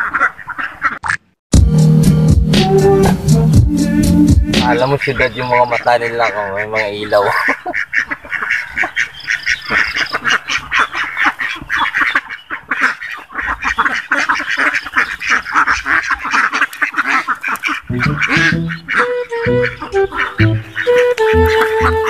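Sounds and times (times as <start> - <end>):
ducks quacking: 0.0 - 1.2, 4.3 - 22.0.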